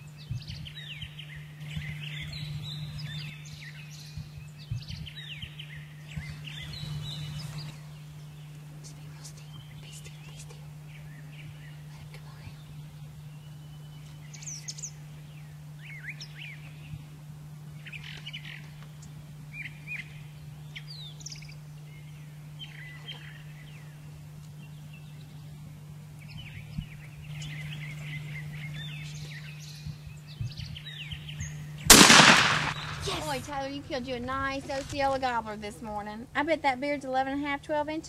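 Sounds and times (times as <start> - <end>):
small birds chirping: 0.0 - 38.0
steady low hum: 0.0 - 38.0.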